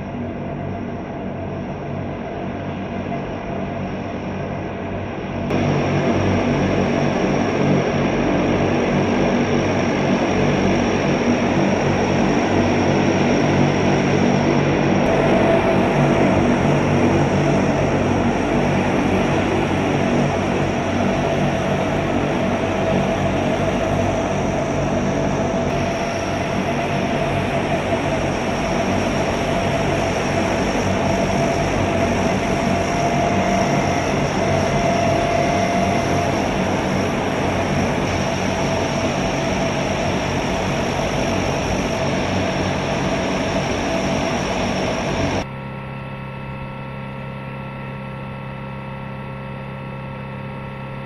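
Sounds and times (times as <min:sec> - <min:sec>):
steady whine: 0:00.0 - 0:51.0
turboprop engines running: 0:00.0 - 0:51.0.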